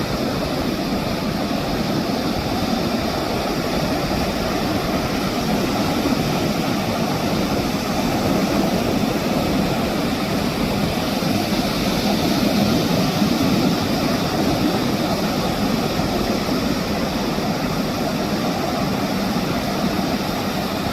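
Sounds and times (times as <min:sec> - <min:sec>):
ocean surf breaking on beach: 0:00.0 - 0:20.9.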